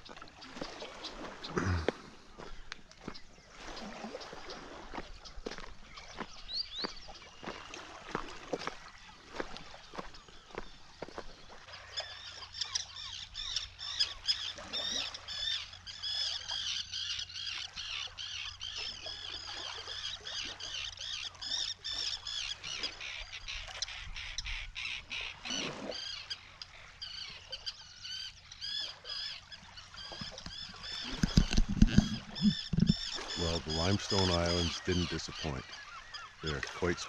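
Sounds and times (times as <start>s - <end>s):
seabirds calling: 0.0s - 37.0s.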